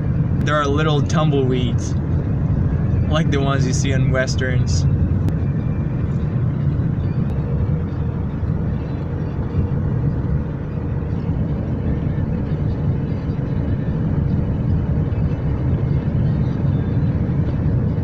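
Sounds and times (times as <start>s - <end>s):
car driving rumble from inside: 0.0s - 18.0s
wind: 0.0s - 18.0s.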